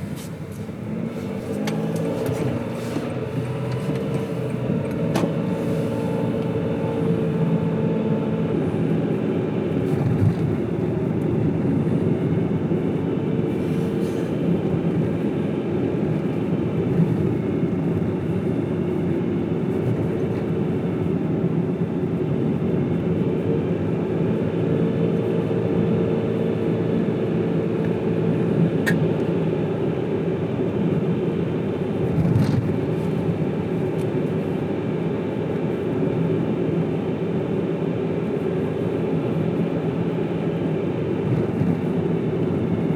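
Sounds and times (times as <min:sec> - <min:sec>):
car driving on road: 0:00.0 - 0:42.9.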